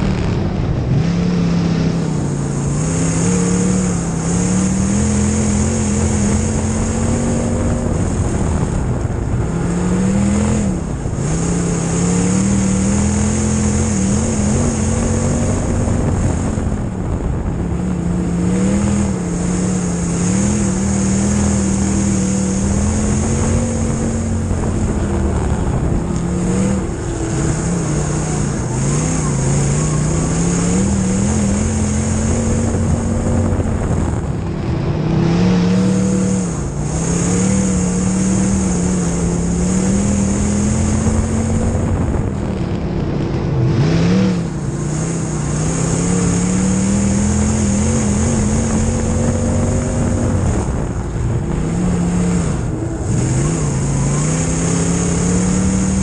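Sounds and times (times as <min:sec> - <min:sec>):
race car engine: 0:00.0 - 0:56.0
wind and track noise: 0:00.0 - 0:56.0.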